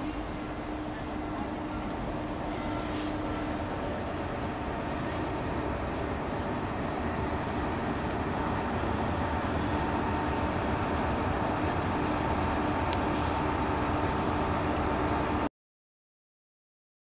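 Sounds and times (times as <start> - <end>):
diesel engine humming: 0.0 - 15.4.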